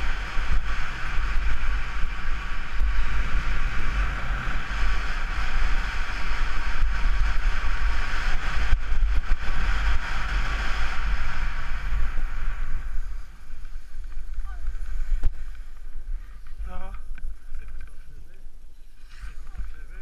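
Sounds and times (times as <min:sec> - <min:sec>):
skis hissing over snow: 0:00.0 - 0:17.4, 0:18.7 - 0:20.0
wind buffeting microphone: 0:00.0 - 0:20.0.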